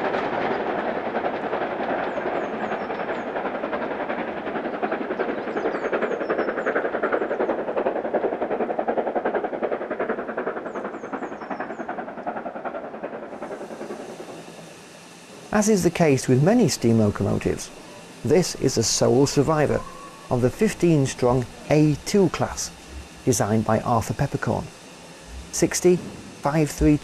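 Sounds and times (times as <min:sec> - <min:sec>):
steam locomotive running: 0:00.0 - 0:27.0.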